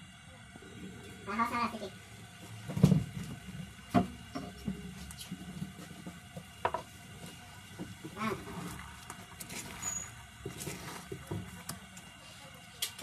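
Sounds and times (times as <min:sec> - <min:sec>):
egg sizzling in a frying pan: 0:01.2 - 0:13.0.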